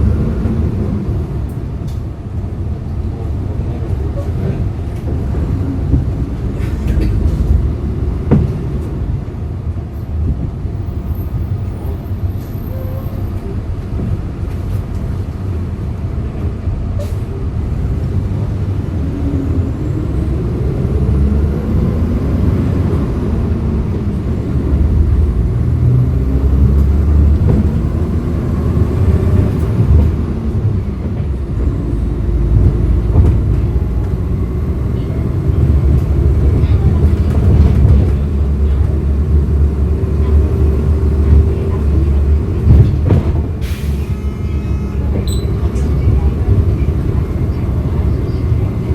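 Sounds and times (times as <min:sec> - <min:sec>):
bus engine rumbling: 0:00.0 - 0:48.9.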